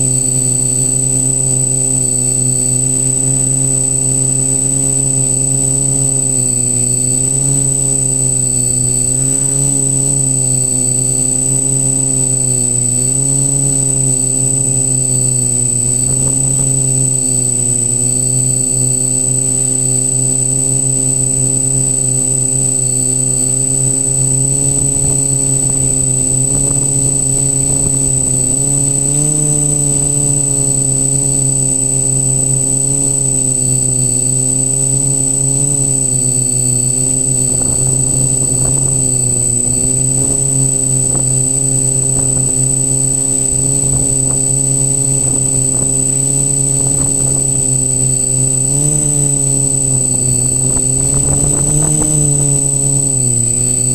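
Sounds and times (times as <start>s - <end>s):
drone motors buzzing: 0.0s - 53.9s
high whine: 0.0s - 53.9s.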